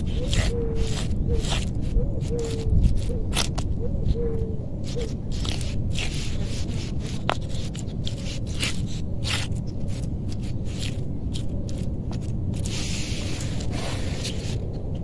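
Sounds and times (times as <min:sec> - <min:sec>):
wooden stick scraping cardboard: 0:00.0 - 0:03.7, 0:04.8 - 0:14.6.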